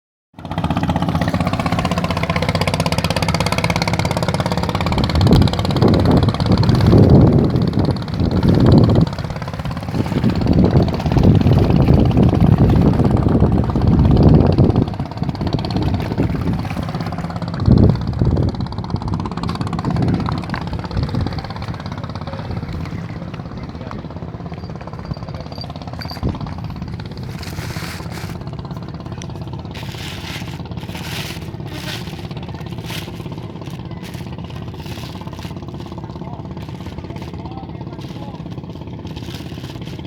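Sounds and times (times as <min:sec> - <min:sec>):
small engine running: 0:00.4 - 0:40.0.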